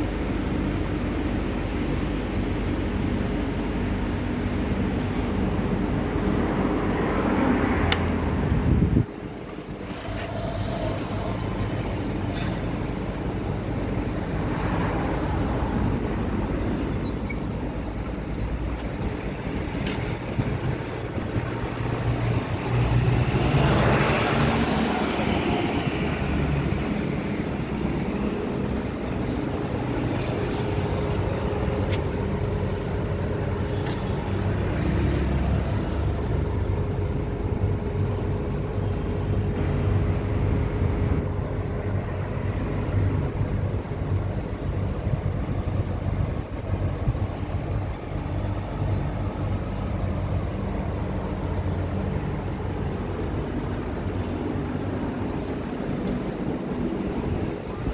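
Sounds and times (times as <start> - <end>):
engine low rumble: 0.0 - 57.9.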